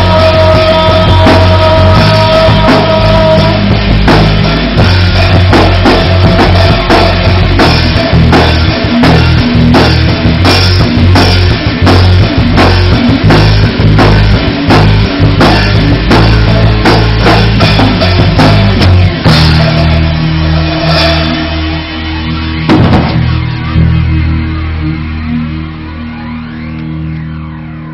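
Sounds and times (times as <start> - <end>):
drum kit beat: 0.0 - 24.6
rock band playing: 0.0 - 27.9.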